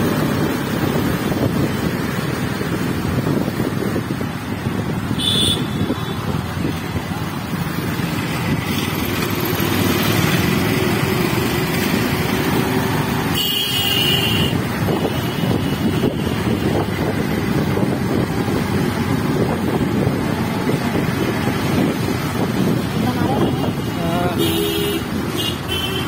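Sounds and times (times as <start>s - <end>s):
wind rumble: 0.0s - 13.2s, 14.5s - 23.8s
motorcycles running: 0.0s - 26.0s
road traffic: 0.0s - 26.0s.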